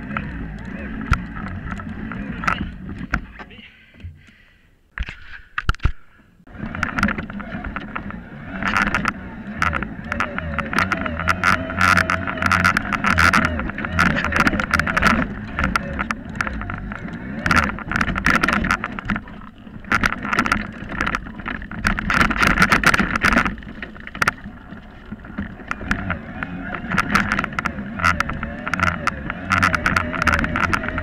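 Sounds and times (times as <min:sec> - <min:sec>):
bike rattling and knocking: 0:00.0 - 0:03.4, 0:06.5 - 0:31.0.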